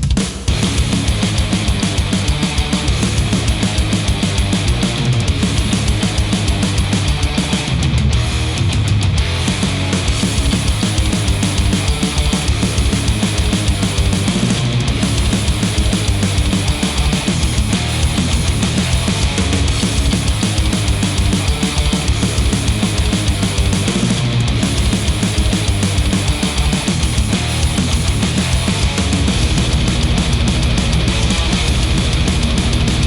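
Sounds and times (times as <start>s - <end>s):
heavy rock music: 0.0s - 33.0s.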